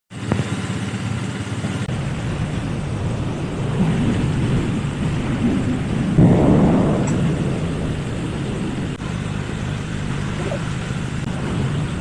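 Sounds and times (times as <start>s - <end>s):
engine rumbling: 0.1s - 12.0s.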